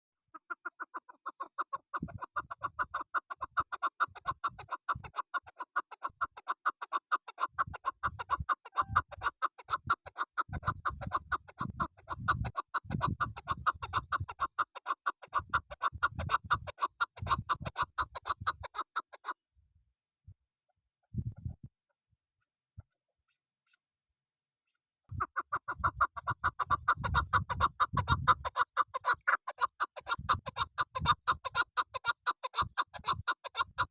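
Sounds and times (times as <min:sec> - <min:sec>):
partridge clucking call: 0:00.3 - 0:19.4, 0:25.1 - 0:33.9.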